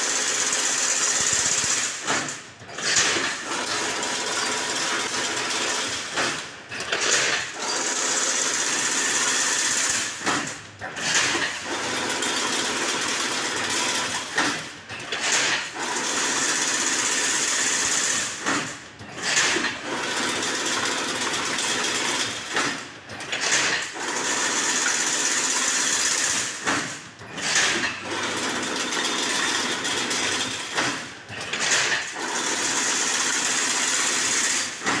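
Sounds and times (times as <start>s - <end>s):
weaving machine clattering: 0.0s - 35.0s.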